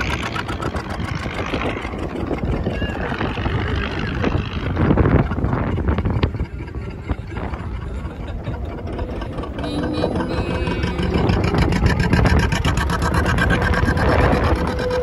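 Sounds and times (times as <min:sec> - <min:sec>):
boat motor chugging: 0:00.0 - 0:15.0.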